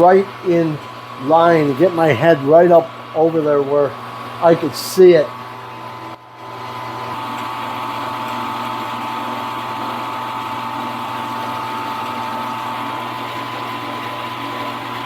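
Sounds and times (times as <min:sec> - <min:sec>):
milling machine motor whine: 0:00.0 - 0:15.0.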